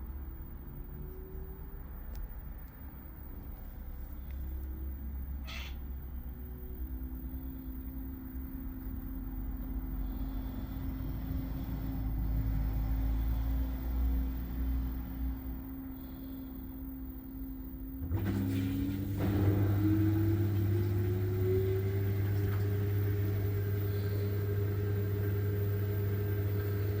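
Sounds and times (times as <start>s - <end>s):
washing machine spin whine: 0.0s - 27.0s.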